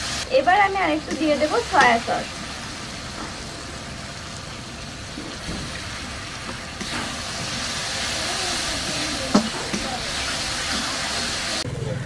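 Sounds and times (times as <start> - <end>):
vegetables sizzling in a wok: 0.0 - 11.7.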